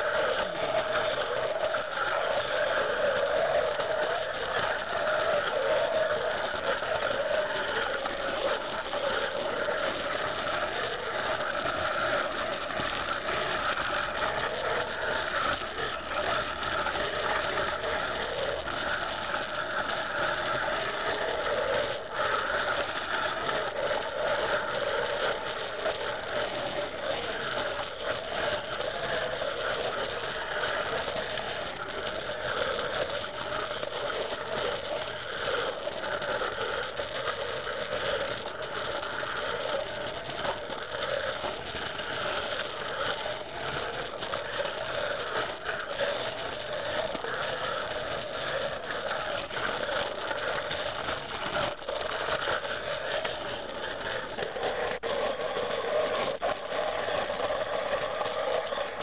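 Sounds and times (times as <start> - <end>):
harsh crackling noise drone: 0.0 - 59.0.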